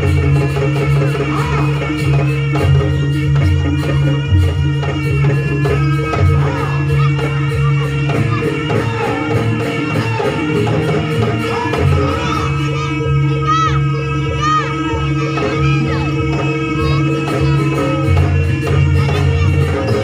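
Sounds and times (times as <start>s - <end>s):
loud music with steady beat: 0.0s - 20.0s.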